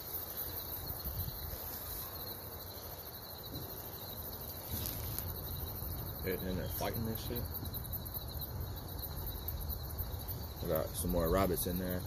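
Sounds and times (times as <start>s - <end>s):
high insect chirring: 0.0s - 12.0s.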